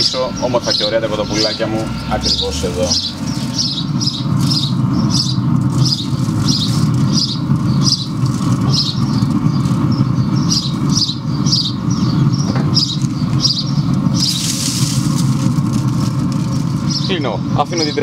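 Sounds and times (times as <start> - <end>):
small bird chirping: 0.0 - 15.4, 16.7 - 18.0.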